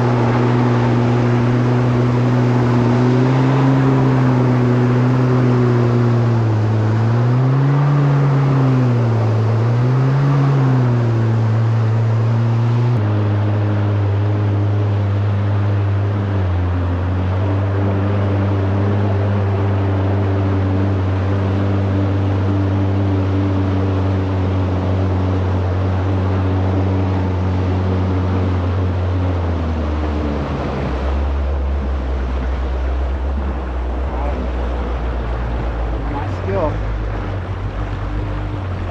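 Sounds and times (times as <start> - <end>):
jet ski engine running: 0.0 - 38.9.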